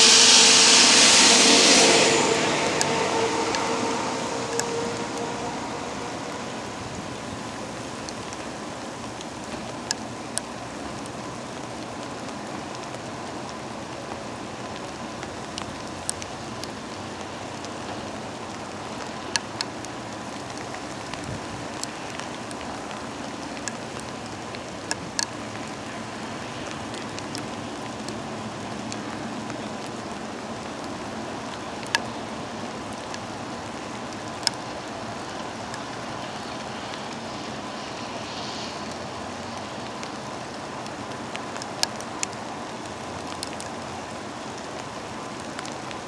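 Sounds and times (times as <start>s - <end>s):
heavy rain falling: 0.0s - 46.0s
raindrops tapping close by: 4.7s - 46.0s.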